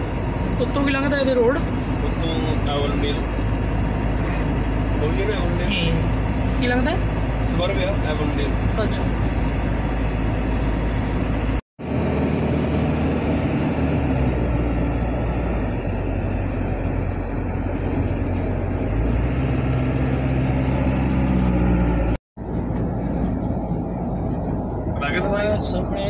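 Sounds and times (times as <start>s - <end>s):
truck engine and tyre noise: 0.0s - 26.0s.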